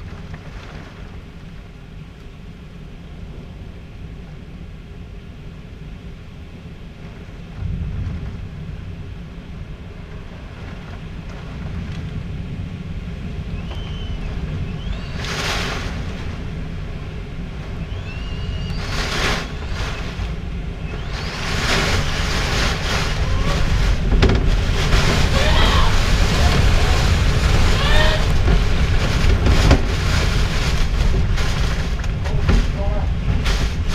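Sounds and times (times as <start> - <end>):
low wind rumble: 0.0 - 33.9
wind-driven rain hissing: 0.0 - 33.9.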